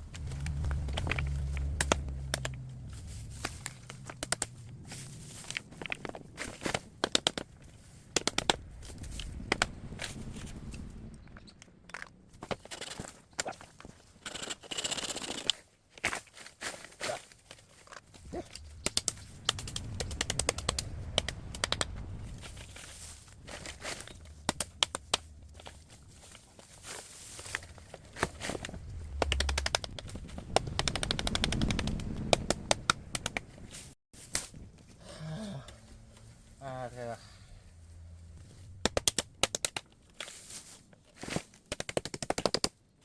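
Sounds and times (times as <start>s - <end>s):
rustling and handling noise: 0.0s - 31.8s, 32.6s - 43.0s
bamboo cracking and snapping: 0.0s - 36.3s, 38.4s - 42.8s.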